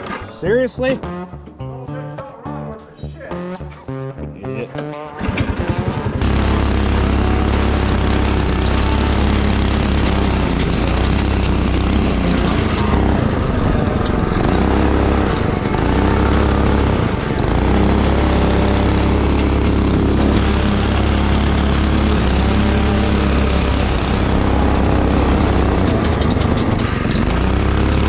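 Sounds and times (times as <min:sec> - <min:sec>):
go-kart engine running: 0:05.1 - 0:28.0.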